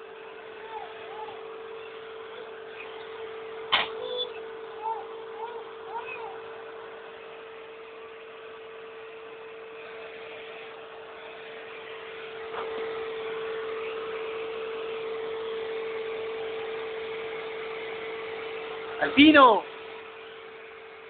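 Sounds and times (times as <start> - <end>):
vacuum cleaner motor humming: 0.0 - 21.0.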